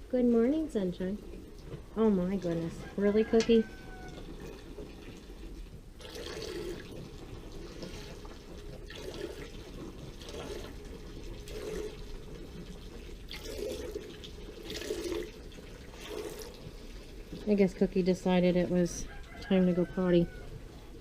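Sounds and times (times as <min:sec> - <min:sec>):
calf urinating: 0:00.7 - 0:21.0.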